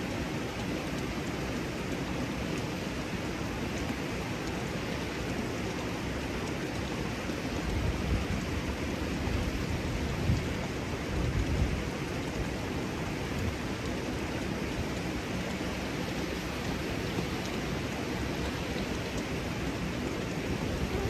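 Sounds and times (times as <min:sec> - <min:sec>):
water cascade rushing: 0:00.0 - 0:21.0.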